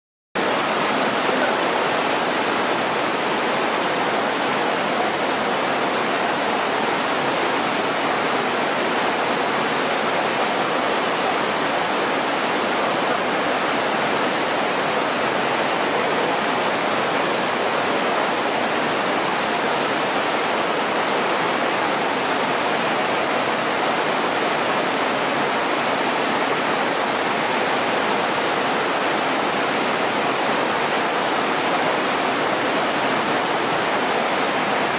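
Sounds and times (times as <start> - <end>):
heavy rain pouring: 0.4 - 34.9.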